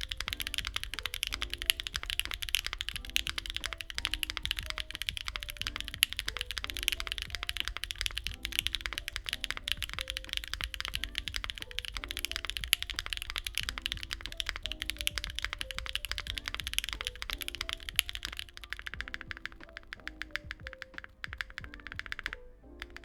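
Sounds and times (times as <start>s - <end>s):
mechanical keyboard typing: 0.0s - 23.0s
soft background music: 0.0s - 23.0s.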